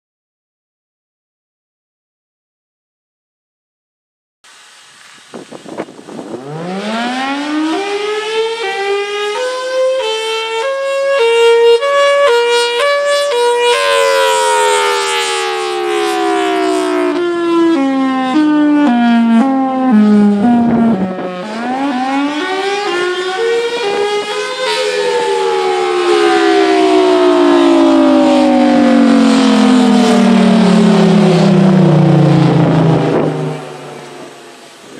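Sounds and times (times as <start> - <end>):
rotating mechanical siren: 6.1 - 34.9.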